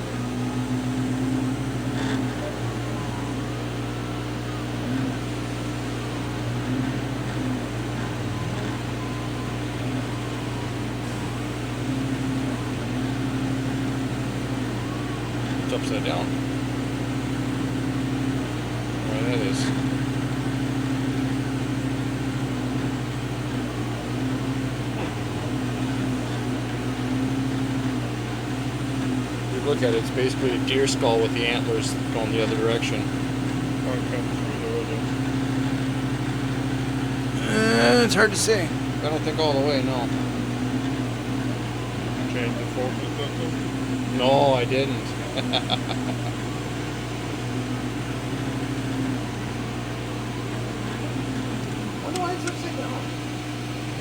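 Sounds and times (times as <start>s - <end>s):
higher machine tone: 0.0s - 54.0s
laser cutter humming: 0.0s - 54.0s.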